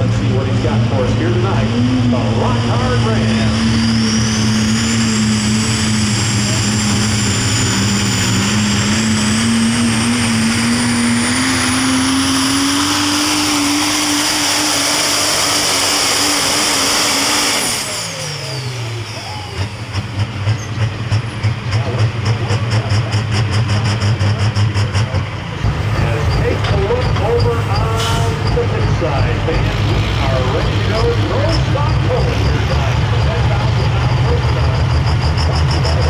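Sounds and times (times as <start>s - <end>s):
diesel truck engine at full power: 0.0s - 36.0s
turbo whine: 0.0s - 36.0s.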